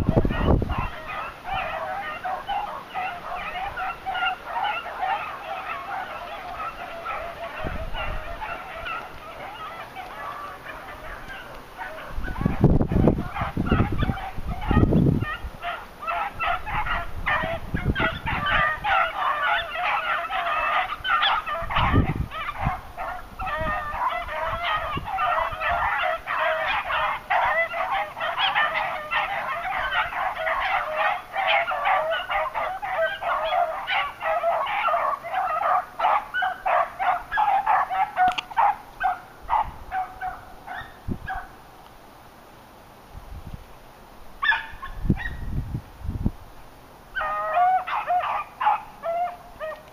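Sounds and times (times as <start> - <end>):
hounds baying: 0.0 - 41.6, 44.4 - 45.4, 47.1 - 49.9.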